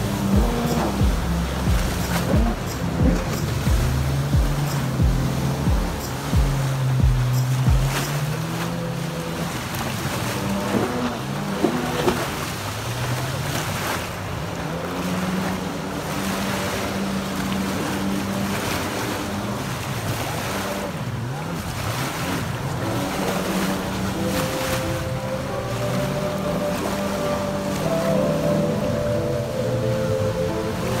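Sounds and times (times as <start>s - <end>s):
boat motor running: 0.0s - 31.0s
water noise: 0.0s - 31.0s
wind: 0.0s - 31.0s.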